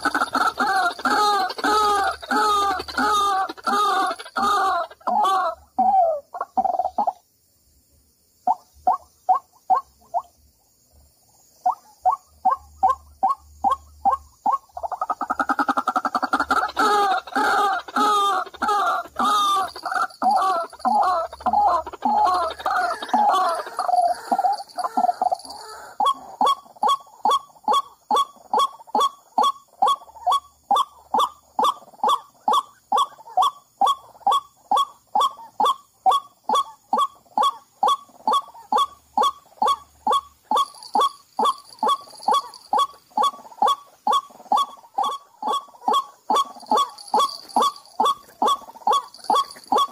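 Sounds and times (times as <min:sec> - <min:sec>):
waterhens croaking calls: 0:00.0 - 0:07.2, 0:11.6 - 0:49.9.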